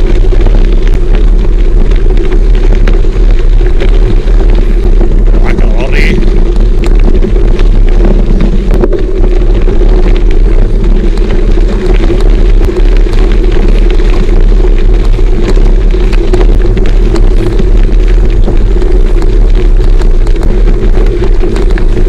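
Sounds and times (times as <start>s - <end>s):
gravel ticking under tyres: 0.0s - 22.0s
off-road motorcycle running: 0.0s - 22.0s
wind buffeting microphone: 0.0s - 22.0s.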